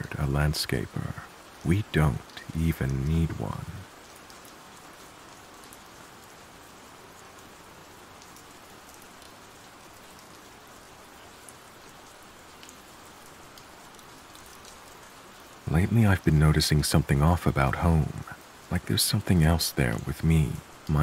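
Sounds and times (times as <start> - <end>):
raindrop ticks: 0.0 - 21.0
steady rain: 0.0 - 21.0.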